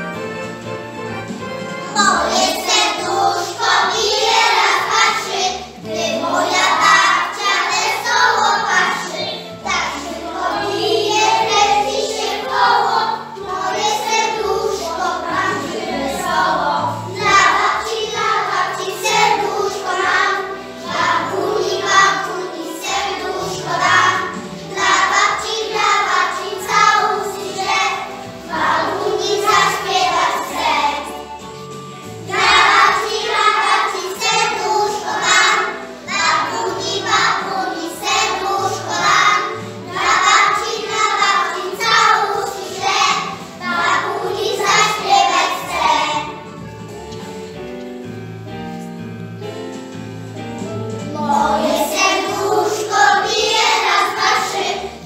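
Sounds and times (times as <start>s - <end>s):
instrumental accompaniment: 0.0s - 55.0s
children singing: 1.9s - 46.5s, 51.1s - 55.0s.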